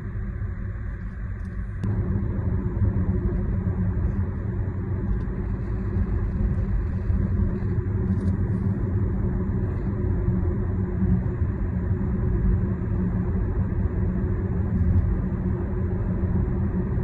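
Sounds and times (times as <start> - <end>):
car engine drone from inside cabin: 0.0 - 17.0.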